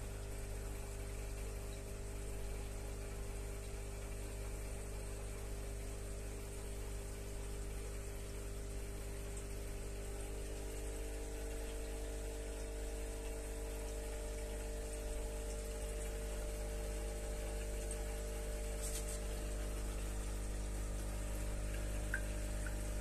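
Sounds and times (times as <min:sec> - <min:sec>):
aquarium pump humming: 0:00.0 - 0:23.0
moving water: 0:00.0 - 0:23.0.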